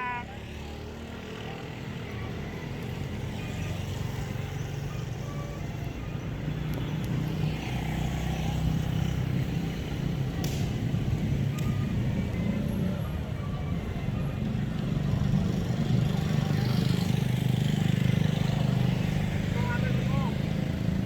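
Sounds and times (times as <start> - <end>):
motor traffic rumble: 0.0 - 21.0.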